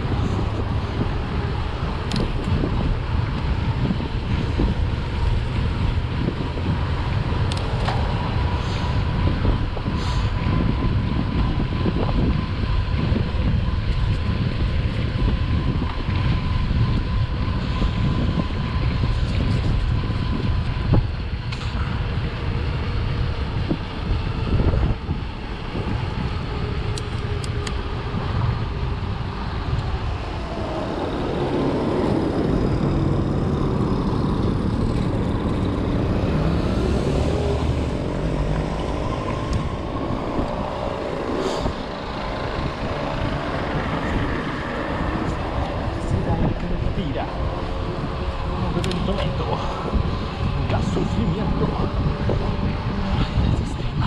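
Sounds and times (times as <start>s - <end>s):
vehicle rumble on the move: 0.0s - 54.0s.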